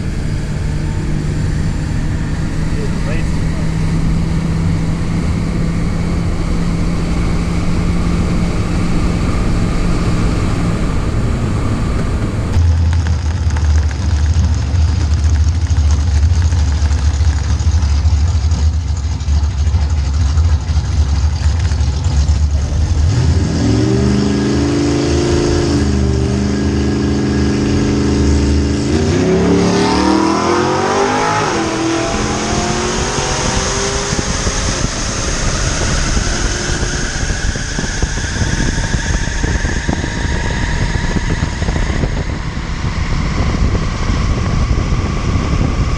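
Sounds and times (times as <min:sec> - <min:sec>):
car engine revving and accelerating: 0:00.0 - 0:12.7, 0:16.5 - 0:45.9.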